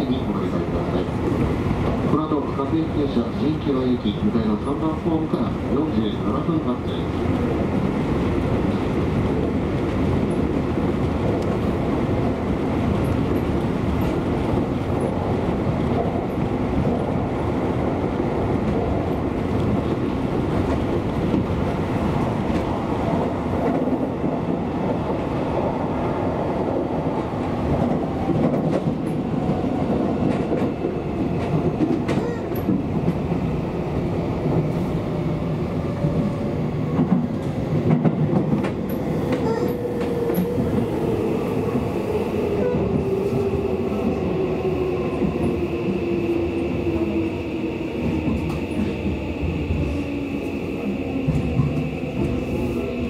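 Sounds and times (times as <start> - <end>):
train wheels on rails: 0.0 - 53.0.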